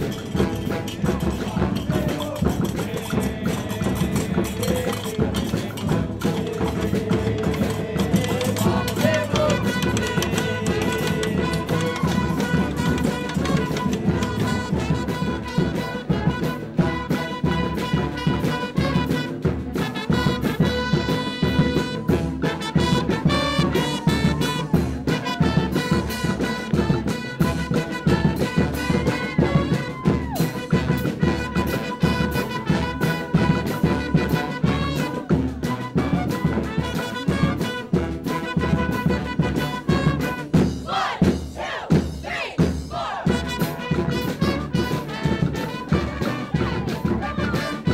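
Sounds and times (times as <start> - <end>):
brass band playing: 0.0 - 47.9.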